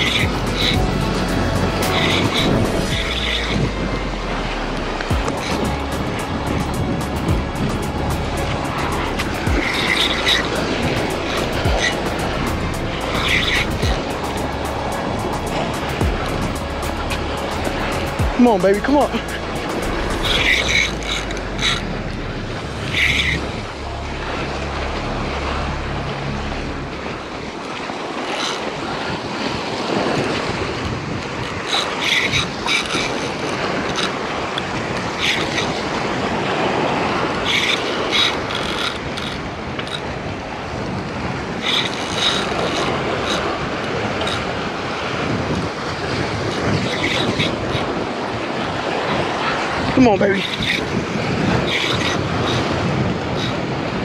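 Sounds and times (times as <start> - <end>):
surf washing against rocks: 0.0 - 54.0
wind on the microphone: 0.0 - 54.0.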